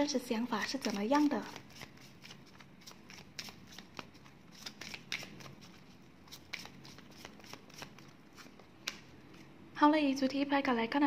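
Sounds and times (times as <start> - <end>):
cards shuffling: 0.7 - 9.6.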